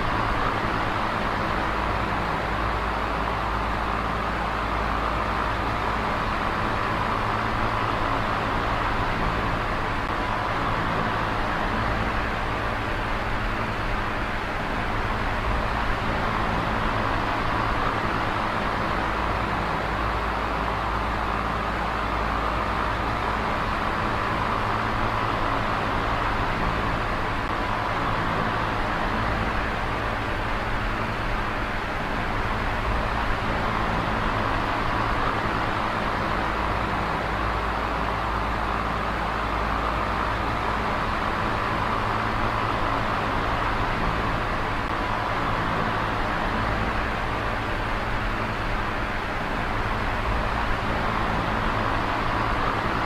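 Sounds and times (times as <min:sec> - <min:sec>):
electric fan whooshing air: 0:00.0 - 0:53.0.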